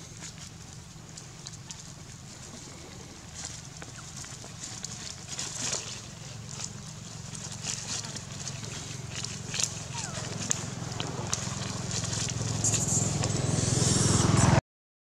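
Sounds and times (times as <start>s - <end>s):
soft rustles and crackles: 0.0s - 13.4s
steady low hum: 0.0s - 14.6s.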